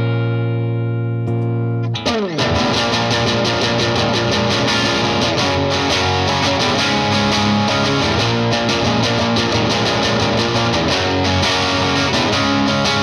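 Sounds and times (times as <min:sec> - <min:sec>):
overdriven electric guitar chords: 0:00.0 - 0:13.0.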